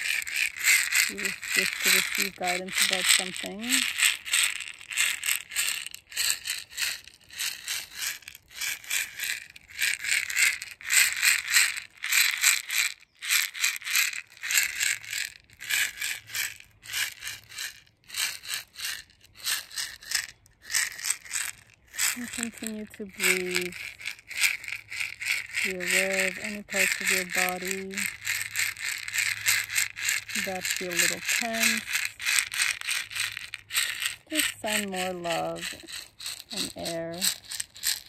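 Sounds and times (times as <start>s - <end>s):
basket rattle shaken: 0.0s - 38.0s.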